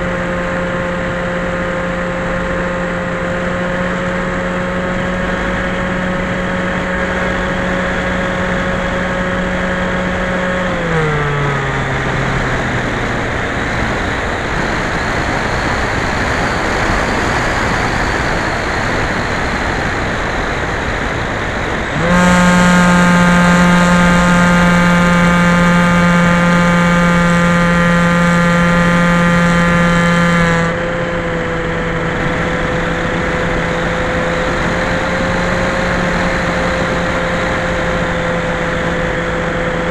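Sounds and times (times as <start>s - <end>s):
electric motor and propeller hum: 0.0s - 39.9s
rushing wind: 0.0s - 39.9s.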